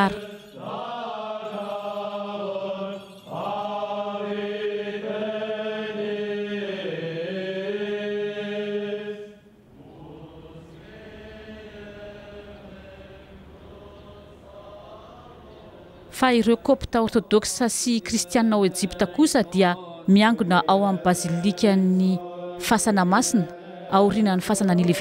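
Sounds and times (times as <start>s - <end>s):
men's choir chanting: 0.0s - 16.1s, 18.0s - 25.0s.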